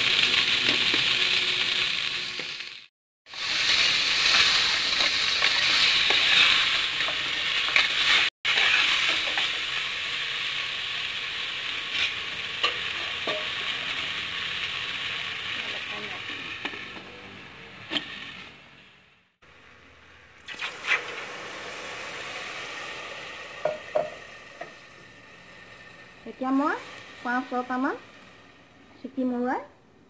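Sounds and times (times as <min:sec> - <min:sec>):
meat and potatoes sizzling in oil: 0:00.0 - 0:17.1, 0:17.7 - 0:29.5.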